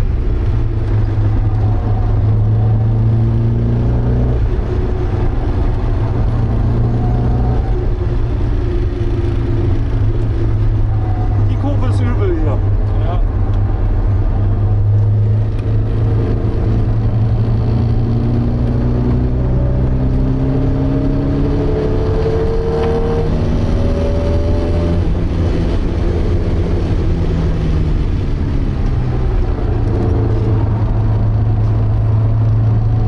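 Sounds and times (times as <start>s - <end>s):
car engine running hard: 0.0s - 33.0s.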